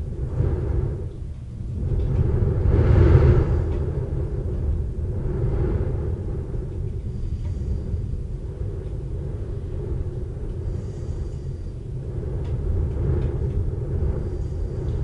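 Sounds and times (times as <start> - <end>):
rolling thunder rumble: 0.0 - 15.0.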